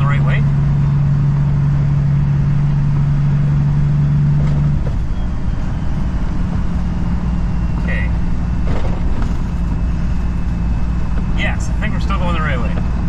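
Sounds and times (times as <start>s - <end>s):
diesel truck engine hum: 0.0s - 13.0s
road rumble: 0.0s - 13.0s.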